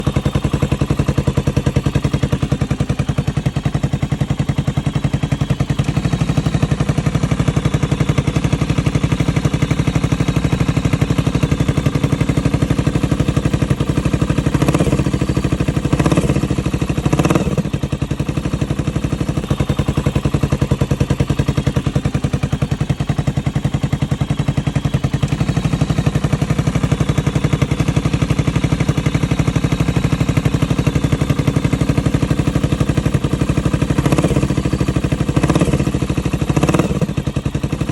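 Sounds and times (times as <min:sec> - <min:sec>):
motorcycle engine idling: 0:00.0 - 0:37.9
motorcycle engine revving: 0:00.0 - 0:37.9.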